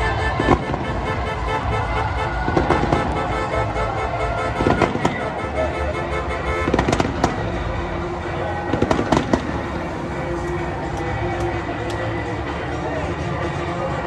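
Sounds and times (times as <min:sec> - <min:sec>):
music playing: 0:00.0 - 0:14.0
fireworks banging: 0:00.2 - 0:12.2.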